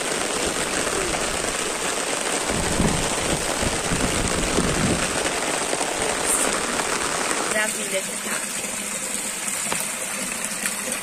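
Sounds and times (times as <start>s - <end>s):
rain falling on puddles: 0.0s - 11.0s.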